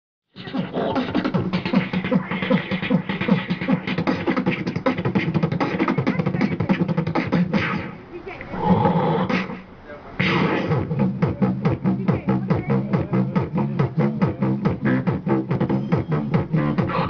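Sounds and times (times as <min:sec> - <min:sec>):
person beatboxing into microphone: 0:00.4 - 0:08.0, 0:09.3 - 0:17.0.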